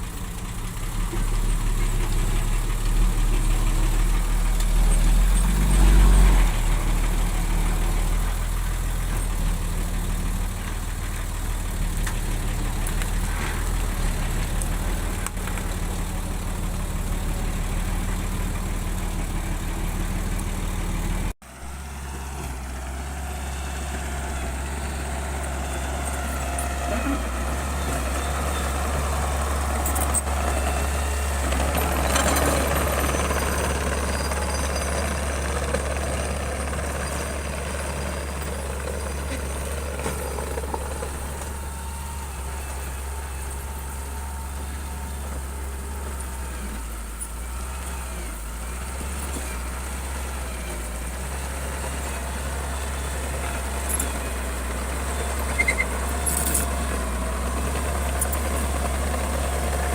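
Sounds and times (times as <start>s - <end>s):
bulldozer diesel engine humming: 0.0s - 59.9s.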